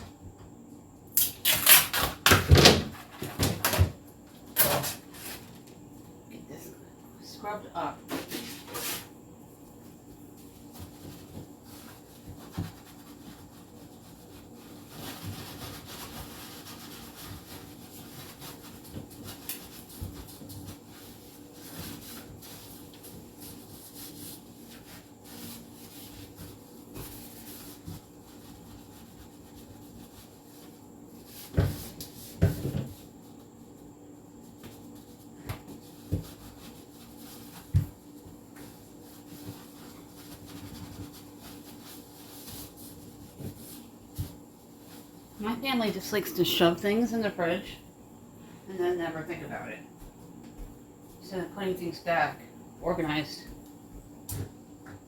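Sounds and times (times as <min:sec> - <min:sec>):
scrubbing inside a refrigerator: 0:01.4 - 0:06.6, 0:07.2 - 0:51.7.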